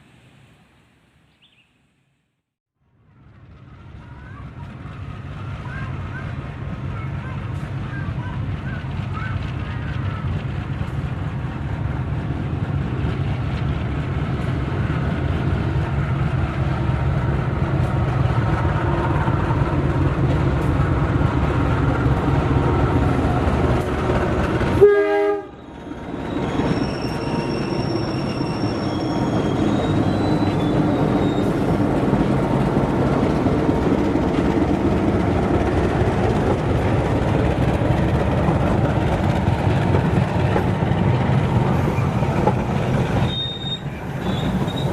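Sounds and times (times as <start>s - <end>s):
diesel locomotive engine rumble: 2.8s - 44.9s.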